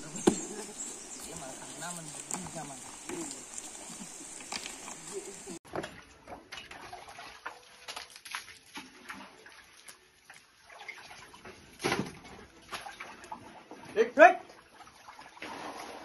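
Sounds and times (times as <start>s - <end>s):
water splashing in metal pans: 1.3s - 16.0s.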